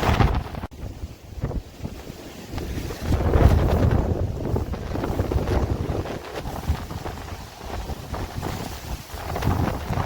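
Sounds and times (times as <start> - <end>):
storm wind buffeting microphone: 0.0 - 10.0.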